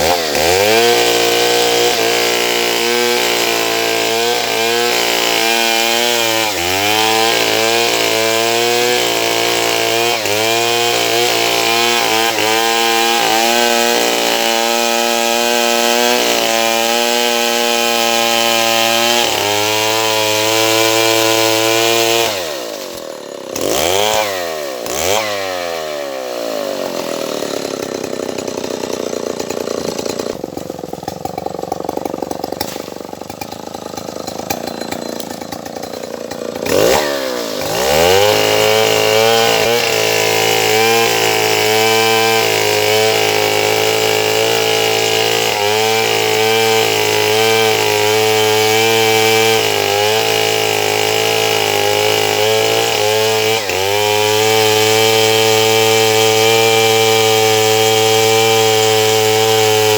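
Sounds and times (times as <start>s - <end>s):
chainsaw sawing wood: 0.0s - 59.9s.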